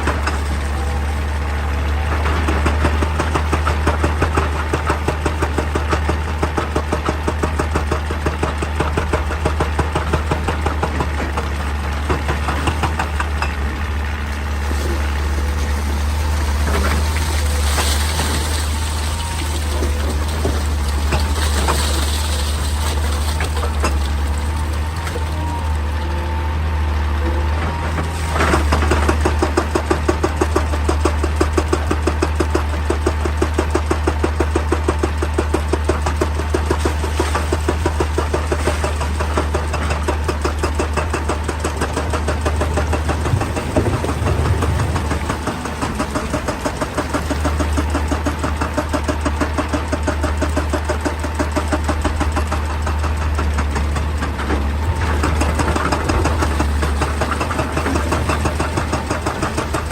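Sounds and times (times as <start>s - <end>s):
excavator diesel engine knocking: 0.0s - 59.9s.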